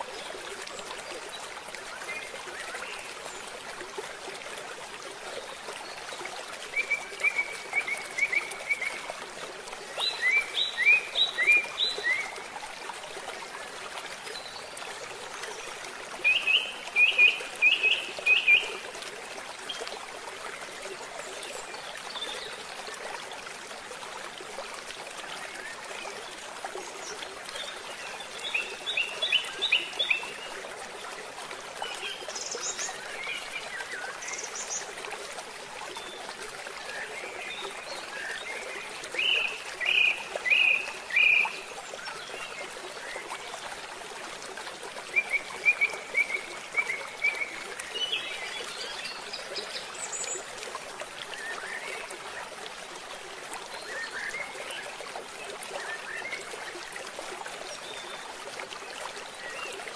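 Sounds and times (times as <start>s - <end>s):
flowing stream: 0.0s - 59.9s.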